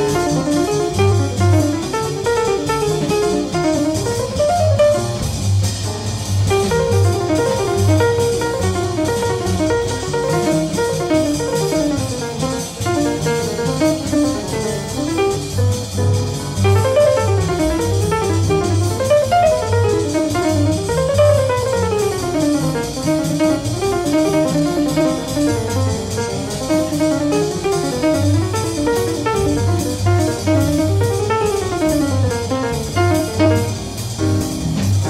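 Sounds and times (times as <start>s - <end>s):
drum kit steady beat: 0.0s - 35.0s.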